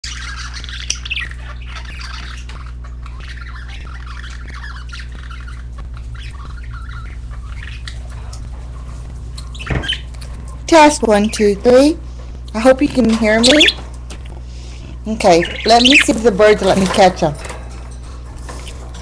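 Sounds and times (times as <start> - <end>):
budgerigars chattering and squawking: 0.0 - 19.0.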